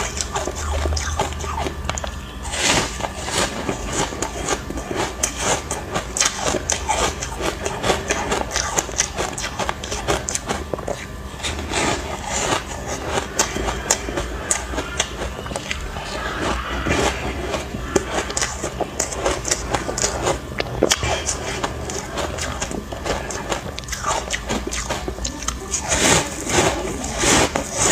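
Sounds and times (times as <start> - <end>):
ice crunching while chewed: 0.0 - 27.9.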